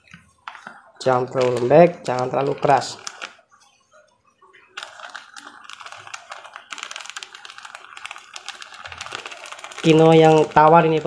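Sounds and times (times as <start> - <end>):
plastic bag crinkling: 0.4 - 11.0
powder shaken from bag: 0.6 - 3.4, 4.6 - 11.0.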